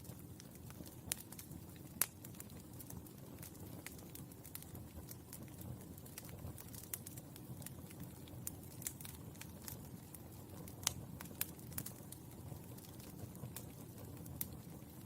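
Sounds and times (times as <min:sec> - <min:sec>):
charcoal crackling and popping: 0:00.0 - 0:15.0.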